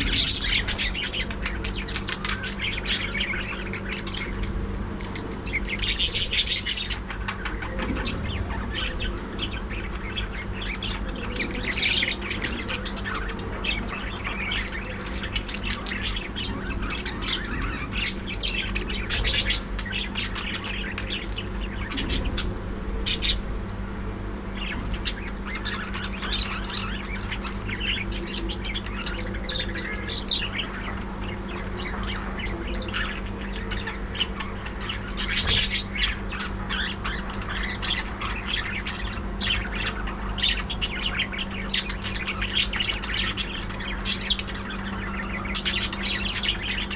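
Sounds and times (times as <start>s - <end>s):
budgerigars chattering: 0.0s - 23.5s, 24.5s - 46.9s
steady low hum: 0.0s - 46.9s.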